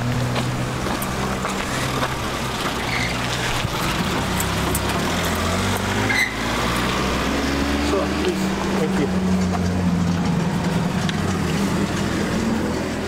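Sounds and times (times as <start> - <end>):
vehicle engine idling: 0.0 - 6.0, 7.8 - 13.0.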